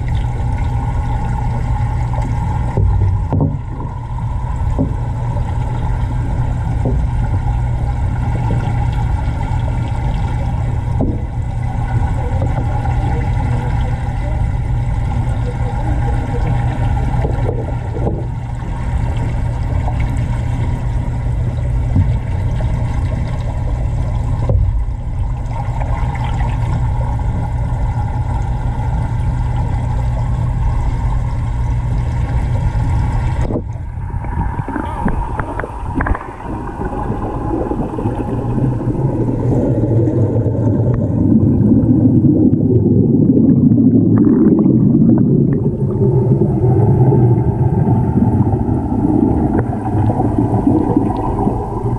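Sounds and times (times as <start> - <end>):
low underwater hum: 0.0 - 51.9
water rushing and bubbling: 0.0 - 51.9.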